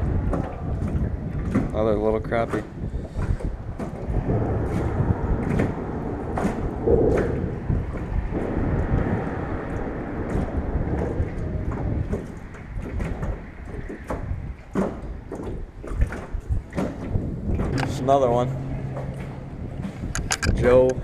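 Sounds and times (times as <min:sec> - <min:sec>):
fishing gear knocks and clicks: 0:00.0 - 0:08.5, 0:09.5 - 0:18.2, 0:18.9 - 0:21.0
wind buffeting microphone: 0:00.0 - 0:21.0.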